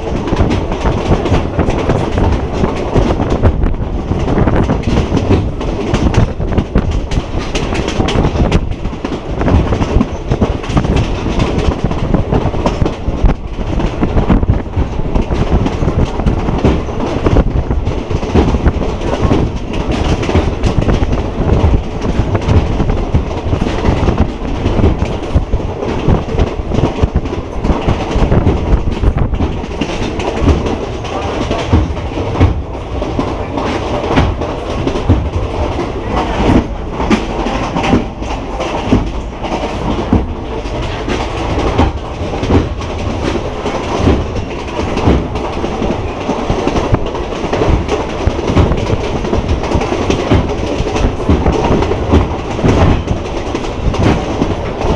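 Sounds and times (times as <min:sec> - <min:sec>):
train wheels rumbling on track: 0:00.0 - 0:54.9
wheels clattering over rail joints: 0:00.0 - 0:54.9.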